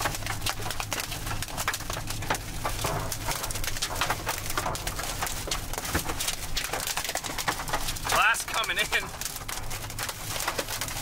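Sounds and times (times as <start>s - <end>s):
hail pelting a vehicle roof: 0.0s - 11.0s
low steady rumble: 0.0s - 11.0s.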